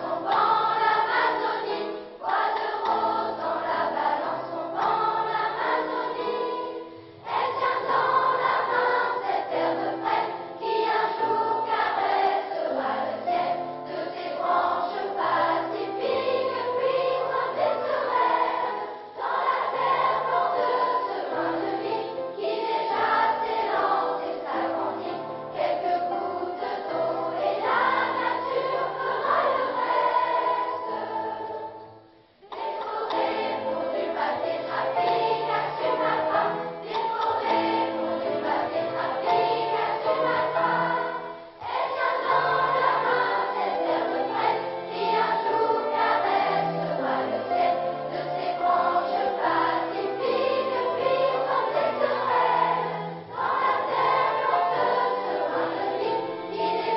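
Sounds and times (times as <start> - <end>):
children's choir singing: 0.0 - 56.9.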